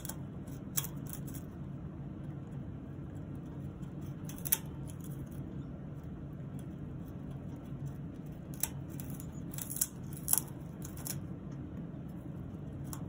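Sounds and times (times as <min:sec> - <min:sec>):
low background hum: 0:00.0 - 0:13.0
parrot chewing wood: 0:00.0 - 0:13.0.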